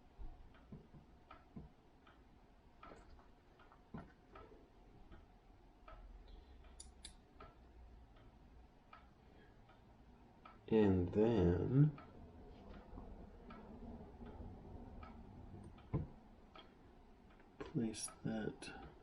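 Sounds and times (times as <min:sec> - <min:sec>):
clock ticking: 0:00.1 - 0:19.0.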